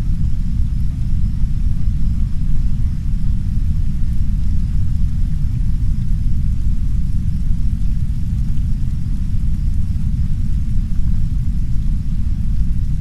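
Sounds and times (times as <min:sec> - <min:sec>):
brown noise rumble: 0:00.0 - 0:13.0
soft rain on a window: 0:00.0 - 0:13.0.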